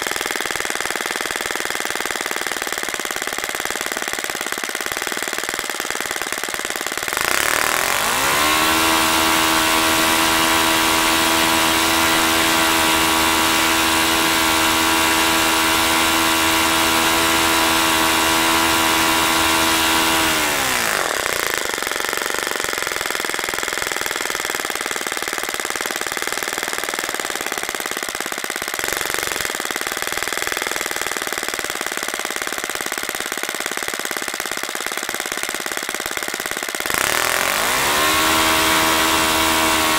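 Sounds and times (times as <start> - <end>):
model engine spinning propeller: 0.0 - 39.9.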